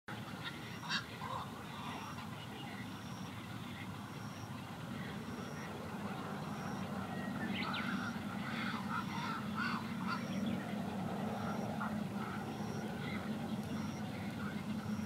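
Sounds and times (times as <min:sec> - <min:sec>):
herons squawking: 0:00.1 - 0:15.0
low hum: 0:00.1 - 0:15.0.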